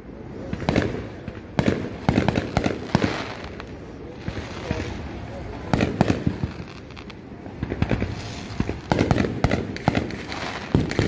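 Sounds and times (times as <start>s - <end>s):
fireworks banging and popping: 0.3s - 11.0s.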